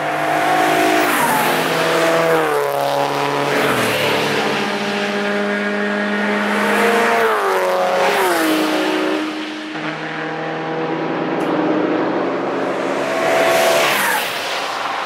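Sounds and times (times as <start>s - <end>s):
car engine passing: 0.0s - 15.0s.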